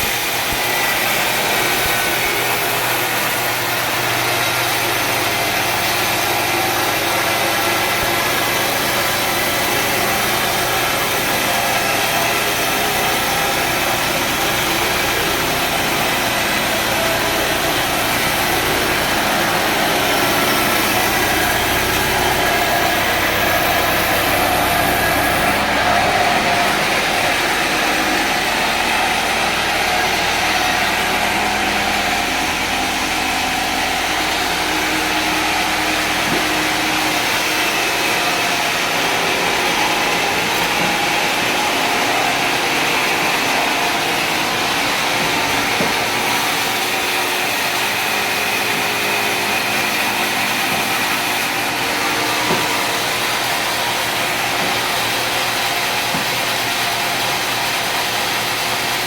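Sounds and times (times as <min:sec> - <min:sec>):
sawmill machinery whirring: 0:00.0 - 0:59.0.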